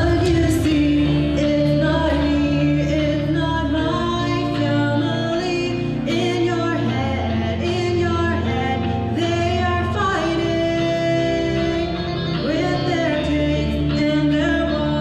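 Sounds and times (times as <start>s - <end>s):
instrumental accompaniment: 0.0s - 15.0s
woman singing: 0.0s - 15.0s.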